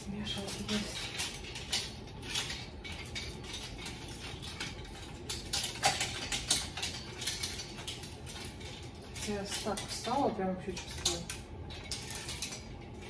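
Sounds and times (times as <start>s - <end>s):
clothes hangers clattering: 0.0s - 13.0s.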